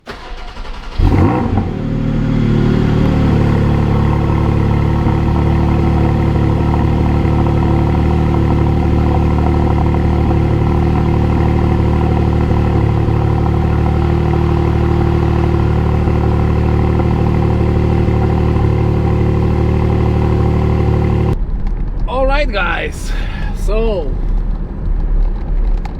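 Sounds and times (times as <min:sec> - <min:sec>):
car engine starting and idling: 0:00.0 - 0:21.4.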